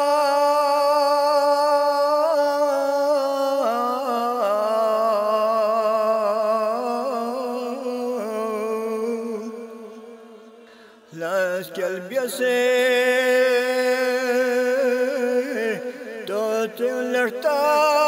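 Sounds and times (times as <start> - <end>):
man chanting wordless notes: 0.0 - 18.0.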